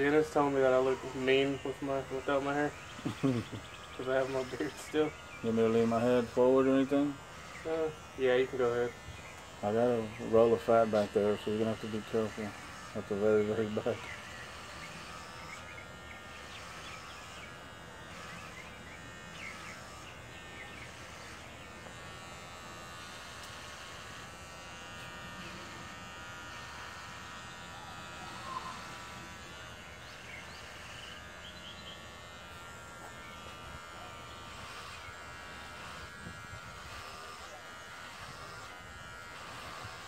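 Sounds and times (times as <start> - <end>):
electric hair clippers buzzing: 0.0 - 40.0.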